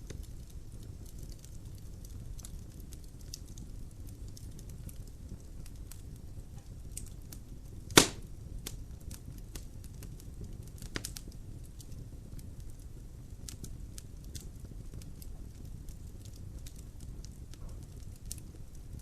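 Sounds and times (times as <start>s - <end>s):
fire crackling: 0.0s - 19.0s
fire rumbling: 0.0s - 19.0s
logs popping in fire: 0.0s - 19.0s.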